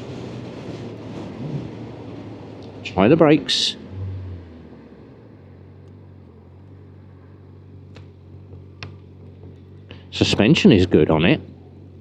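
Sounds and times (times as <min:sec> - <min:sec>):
muffled motorcycle engine running: 0:00.0 - 0:12.0.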